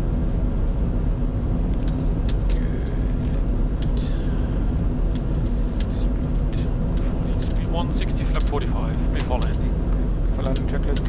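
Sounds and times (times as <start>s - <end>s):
aircraft cockpit engine rumble: 0.0s - 11.0s.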